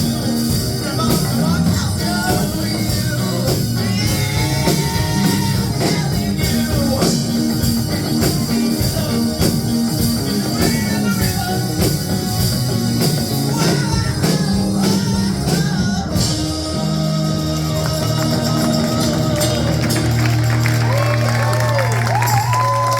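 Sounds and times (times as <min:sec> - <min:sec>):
rock music with singing: 0:00.0 - 0:22.9.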